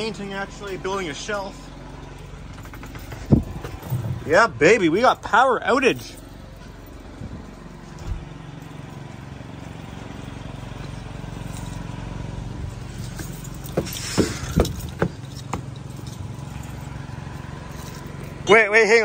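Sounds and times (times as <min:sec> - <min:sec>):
generator engine hum: 0:00.0 - 0:19.0.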